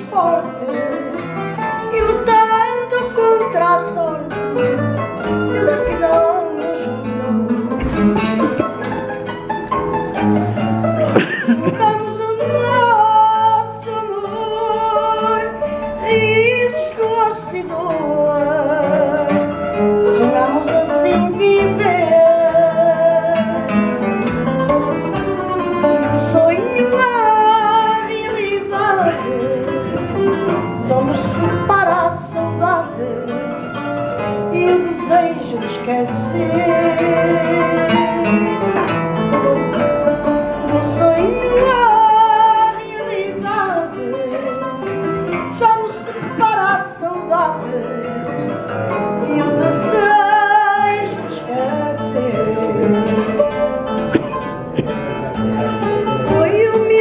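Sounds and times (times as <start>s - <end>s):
woman singing: 0.0s - 9.0s, 11.2s - 24.2s, 25.4s - 39.4s, 40.6s - 53.8s, 56.1s - 57.0s
guitar melody: 0.0s - 57.0s
strummed guitar chords: 0.0s - 57.0s.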